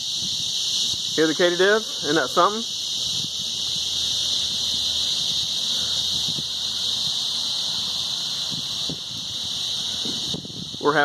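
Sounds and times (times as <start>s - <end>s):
katydids buzzing in chorus: 0.0s - 11.0s.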